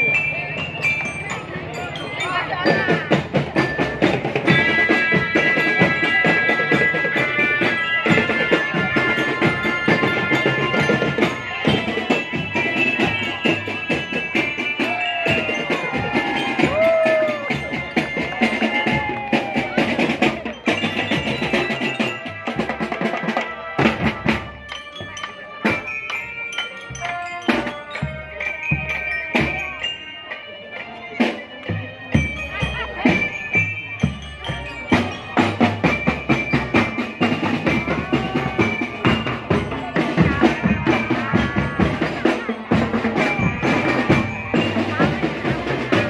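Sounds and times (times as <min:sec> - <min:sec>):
bell-like mallet percussion melody: 0:00.0 - 0:46.0
marching drum band: 0:00.0 - 0:46.0.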